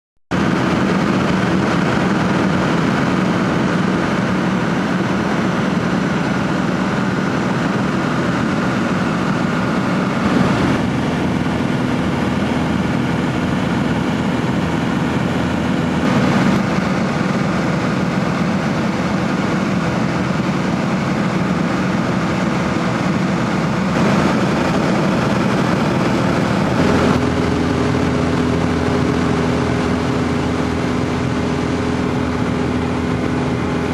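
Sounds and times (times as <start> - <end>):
aircraft engine and propeller: 0.3 - 33.9.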